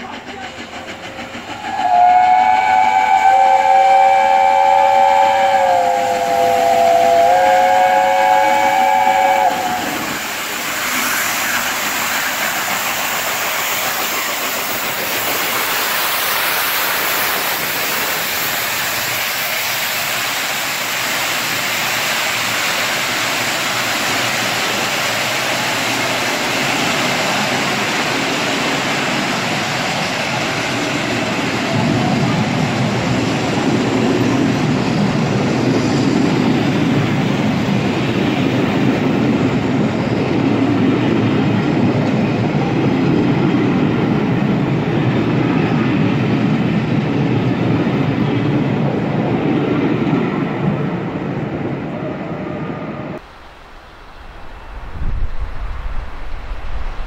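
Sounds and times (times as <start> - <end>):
train coaches rushing past: 0.0 - 53.3.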